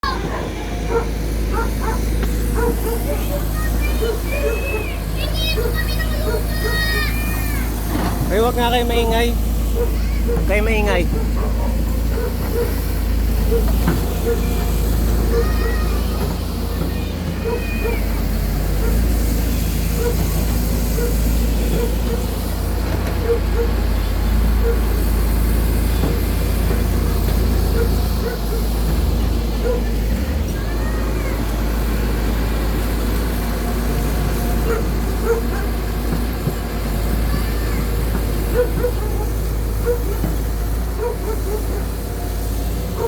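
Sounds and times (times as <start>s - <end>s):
excavator diesel engine rumbling: 0.0s - 43.0s.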